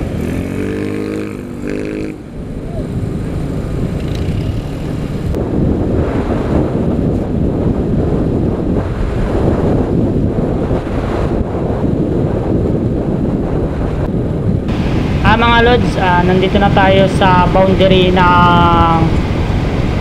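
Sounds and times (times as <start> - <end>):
motorcycle rumble: 0.0 - 20.0
road noise: 0.0 - 20.0
wind buffeting microphone: 0.0 - 20.0.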